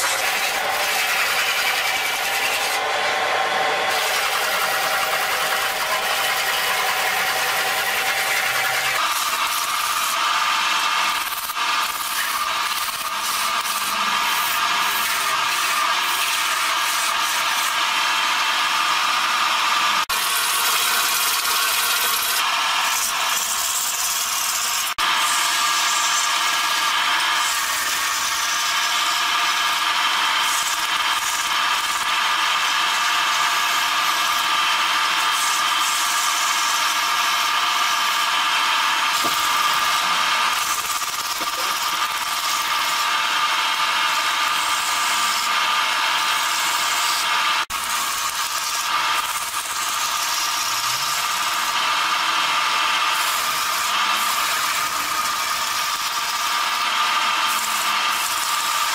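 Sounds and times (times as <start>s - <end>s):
chisel scraping turning wood: 0.0s - 17.9s, 19.8s - 58.9s
faint lathe hum: 0.0s - 58.9s.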